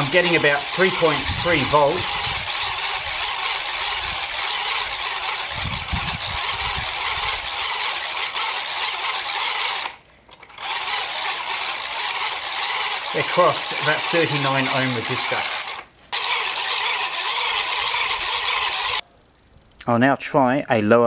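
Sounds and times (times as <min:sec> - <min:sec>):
toy gearbox whirring: 0:00.0 - 0:19.0.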